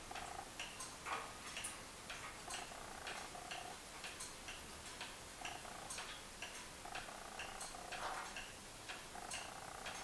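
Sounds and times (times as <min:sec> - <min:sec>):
wall clock ticking: 0:00.0 - 0:10.0.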